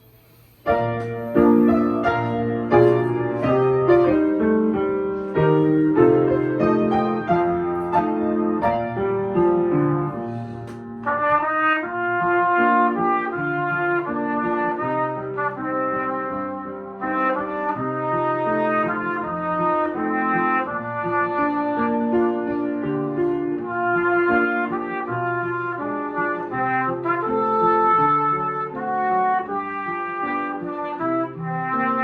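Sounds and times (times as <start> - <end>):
piano chords: 0.0 - 32.0
trumpet melody: 0.7 - 32.0.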